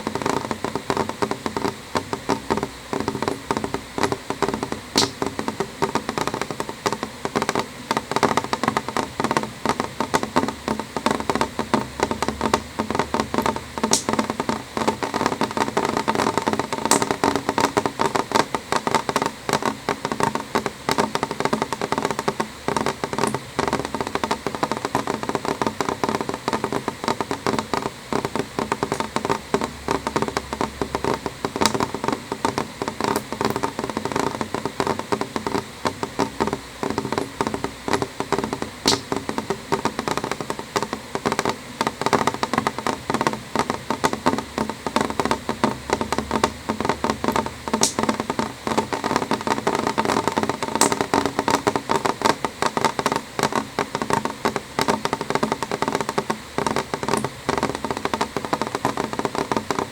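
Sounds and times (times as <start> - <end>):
rain tapping window glass: 0.0 - 59.9.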